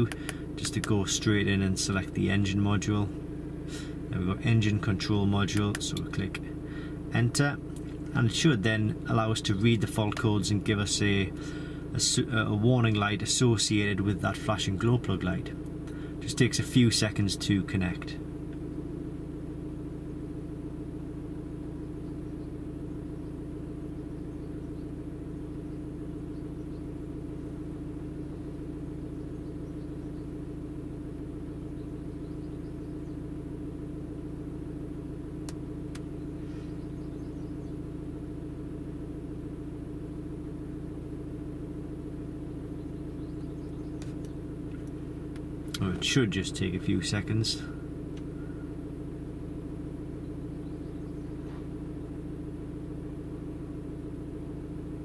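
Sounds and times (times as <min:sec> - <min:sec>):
diesel engine idling hum: 0:00.0 - 0:55.0.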